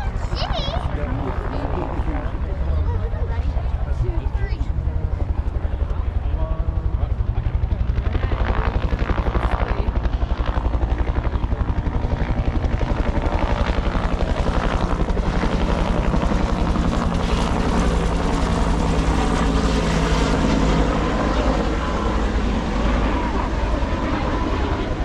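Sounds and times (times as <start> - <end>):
helicopter rotor chop overhead: 0.0 - 25.0.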